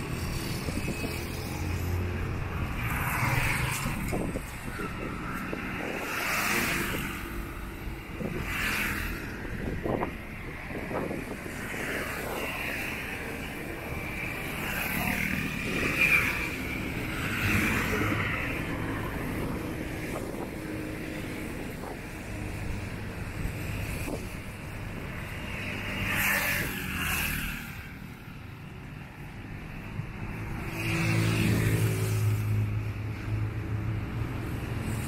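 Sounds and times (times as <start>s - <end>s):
road traffic passing: 0.0s - 35.0s.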